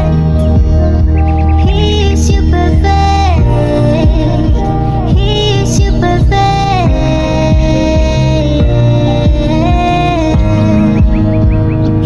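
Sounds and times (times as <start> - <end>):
pop music with steady beat: 0.0 - 12.0
rising chirp-like notes: 0.0 - 12.0.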